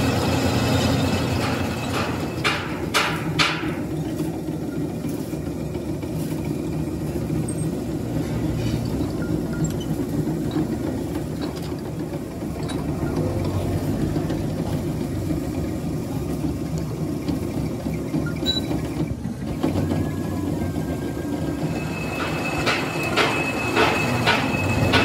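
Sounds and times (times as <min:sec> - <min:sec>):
workshop machinery humming: 0:00.0 - 0:25.0.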